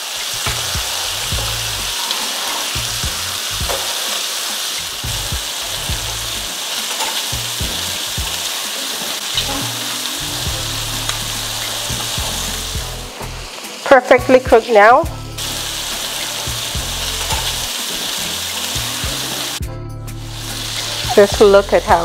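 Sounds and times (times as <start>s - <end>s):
shrimp sizzling in hot oil: 0.0s - 19.6s, 20.2s - 22.0s.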